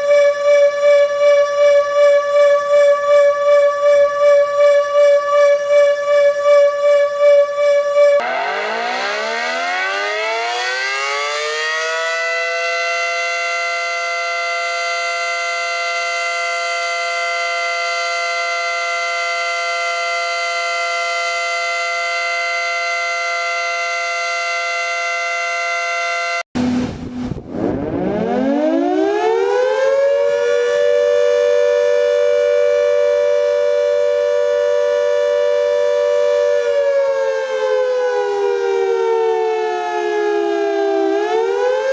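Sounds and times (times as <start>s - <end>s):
warning siren wailing: 0.0s - 41.9s.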